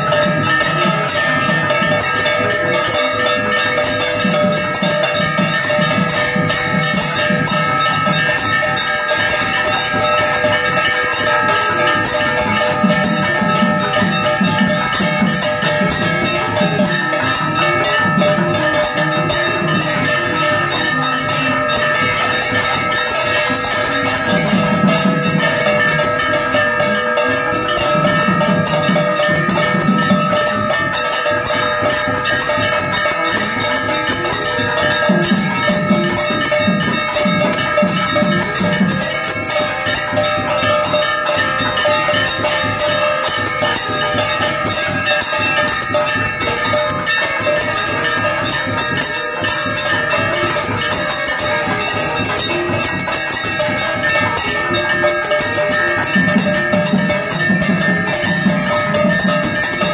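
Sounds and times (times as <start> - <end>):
temple bells ringing: 0.0 - 59.9.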